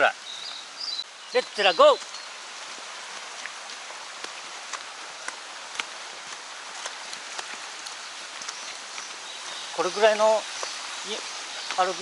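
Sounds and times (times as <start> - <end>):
mountain stream rushing: 0.0 - 12.0
footsteps on trail: 0.4 - 12.0.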